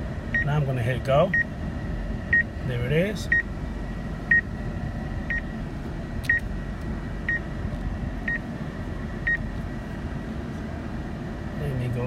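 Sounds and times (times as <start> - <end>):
low rumble inside truck: 0.0 - 12.0.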